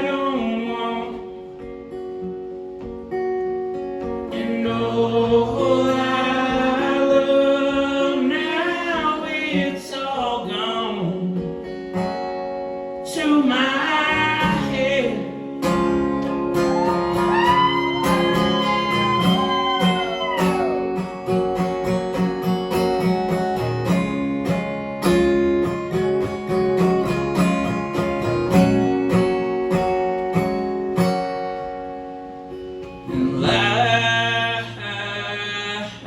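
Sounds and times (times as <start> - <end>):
lead guitar bending notes: 0.0 - 8.2, 14.0 - 35.7
guitars strumming chords: 0.0 - 36.0.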